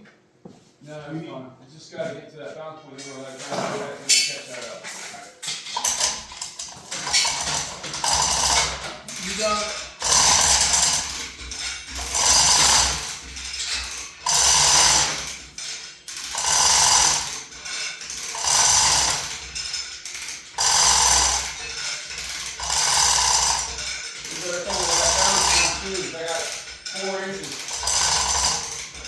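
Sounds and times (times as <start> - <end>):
lever hoist ratchet clatter: 3.0 - 29.0.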